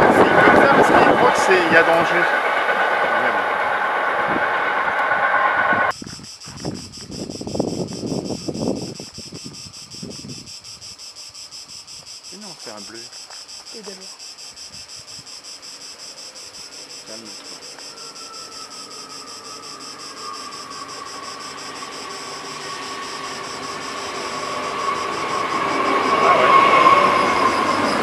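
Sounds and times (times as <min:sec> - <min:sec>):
electric train approaching: 0:00.0 - 0:13.0, 0:13.8 - 0:28.0
insects chirring: 0:00.0 - 0:28.0.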